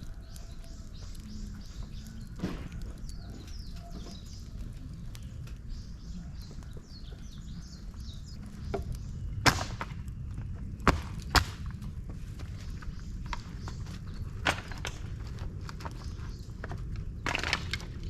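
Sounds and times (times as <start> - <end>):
small birds chirping: 0.0 - 17.2
sharp cracks of fire: 0.0 - 18.0
wood fire burning: 0.0 - 18.0.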